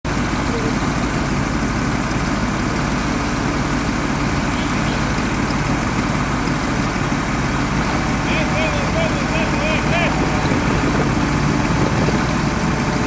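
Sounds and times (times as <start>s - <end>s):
heavy diesel truck engines idling: 0.1s - 13.0s.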